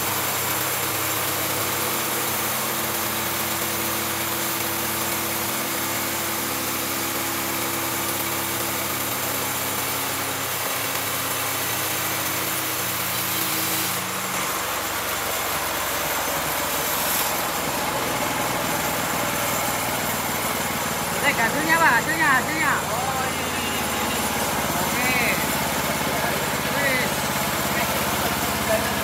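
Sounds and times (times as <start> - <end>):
band blade sawing log: 0.0 - 29.0
sawmill engine running: 0.0 - 29.0.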